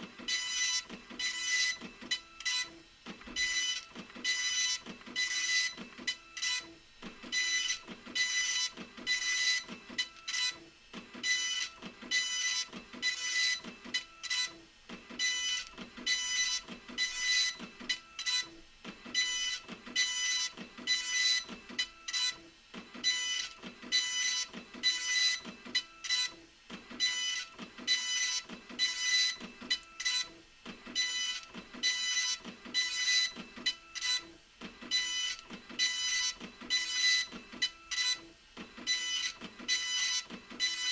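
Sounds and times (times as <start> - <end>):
dot-matrix printer buzzing: 0.0 - 40.9.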